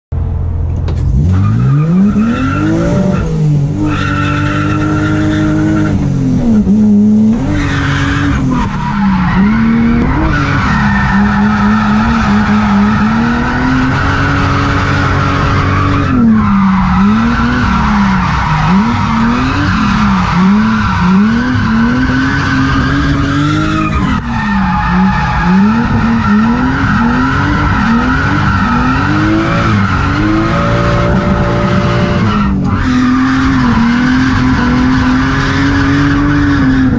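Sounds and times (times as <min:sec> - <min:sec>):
car engine revving: 0:00.2 - 0:36.9
tyres skidding and squealing: 0:00.9 - 0:36.9.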